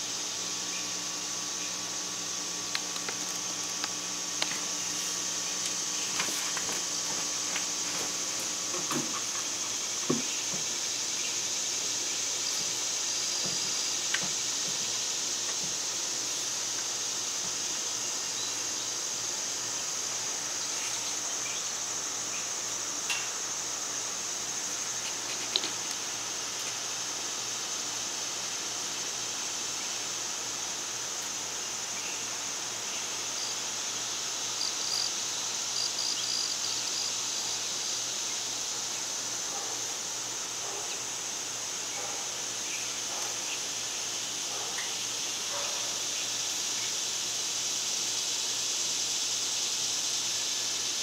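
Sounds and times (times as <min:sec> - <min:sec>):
insect chorus drone: 0:00.0 - 0:51.0.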